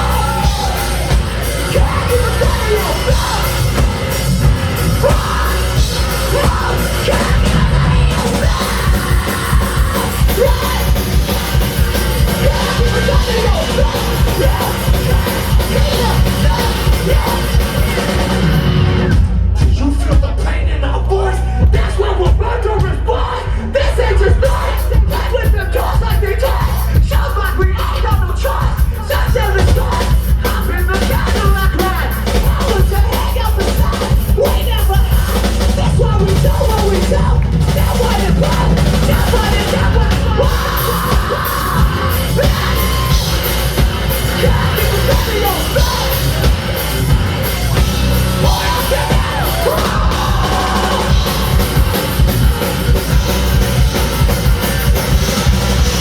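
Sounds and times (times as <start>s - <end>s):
live rap-rock band playing: 0.0s - 56.0s
vocalist yelling and singing: 0.0s - 56.0s.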